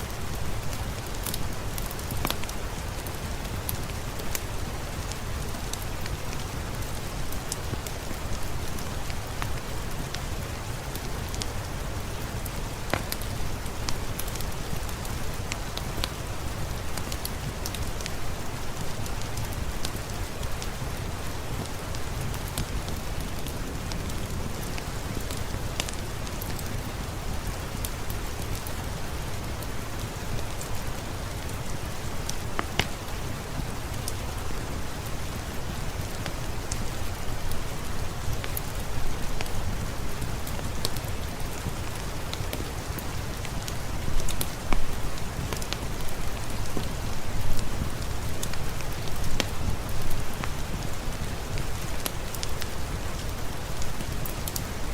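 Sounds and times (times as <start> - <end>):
fireplace crackling and popping: 0.0 - 54.9
rain hiss: 0.0 - 54.9.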